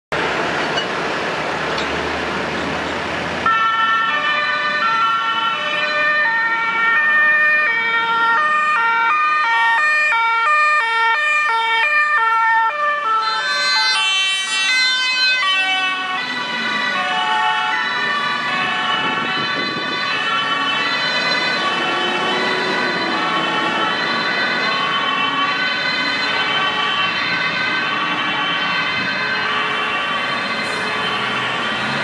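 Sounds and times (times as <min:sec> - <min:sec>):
two-tone fire engine sirens: 0:01.6 - 0:32.0.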